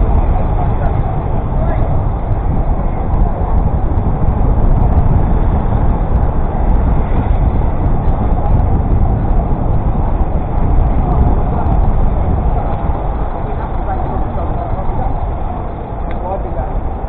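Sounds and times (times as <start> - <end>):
passing road traffic: 0.0 - 17.0
wind buffeting microphone: 0.0 - 17.0.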